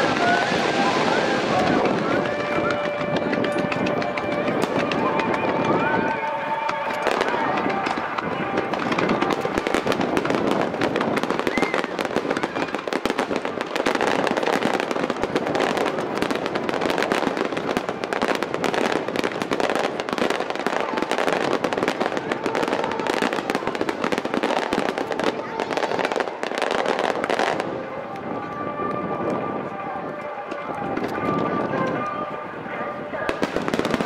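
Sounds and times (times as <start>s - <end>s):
fireworks barrage crackling: 0.0s - 34.0s.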